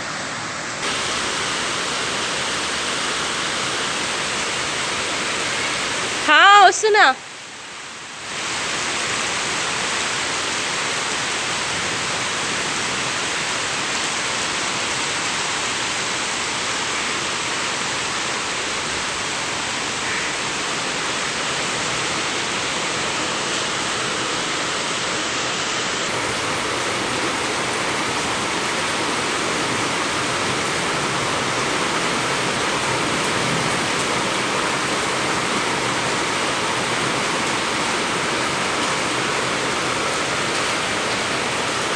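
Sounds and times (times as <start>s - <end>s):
heavy rain falling: 0.4s - 41.9s.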